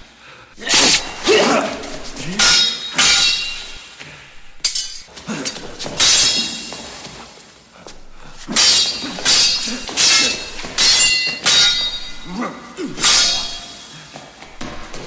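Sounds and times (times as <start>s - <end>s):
sword blades clashing: 0.6s - 7.2s, 7.9s - 15.0s.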